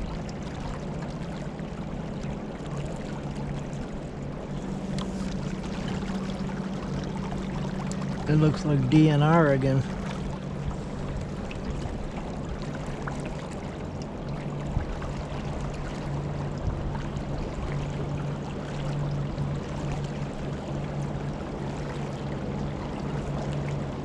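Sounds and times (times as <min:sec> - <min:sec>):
steady low hum: 0:00.0 - 0:24.0
water rushing and splashing: 0:00.0 - 0:24.0.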